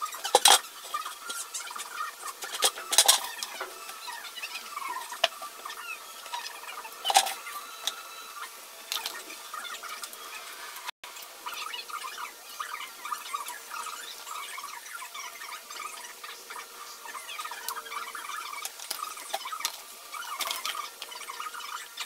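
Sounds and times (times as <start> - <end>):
squeaky plastic scrapes: 0.0 - 10.7, 11.6 - 22.0.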